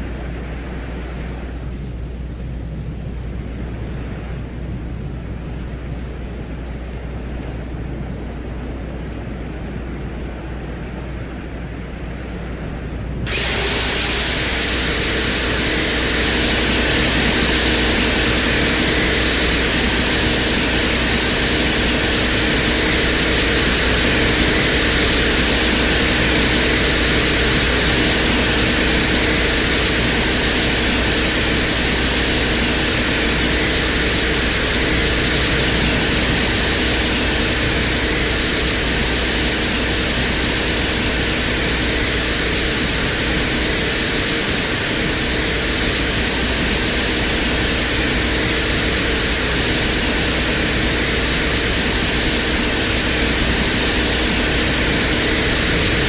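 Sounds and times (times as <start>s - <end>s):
low hum: 0.0s - 56.0s
wind noise hiss: 0.0s - 56.0s.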